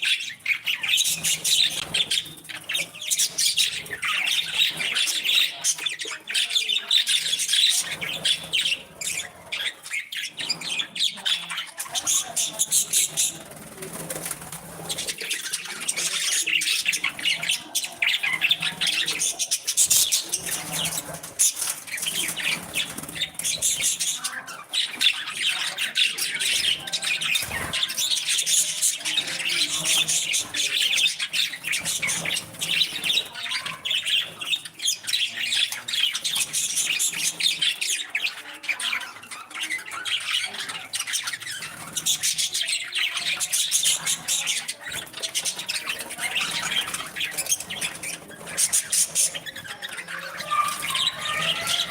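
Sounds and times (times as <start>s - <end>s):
budgerigars chattering: 0.0s - 51.9s.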